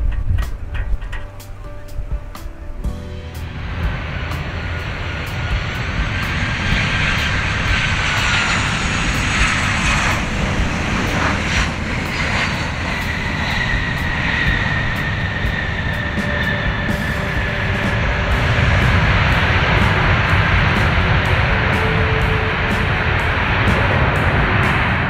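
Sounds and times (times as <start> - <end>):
jet engine roar with whine: 0.0 - 25.0.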